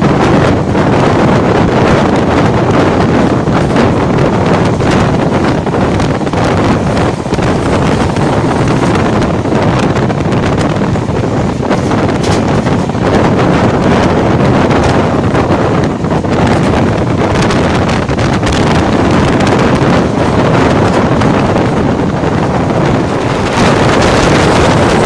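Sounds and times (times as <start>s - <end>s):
train running on track: 0.0s - 25.0s
wind buffeting microphone: 0.0s - 25.0s.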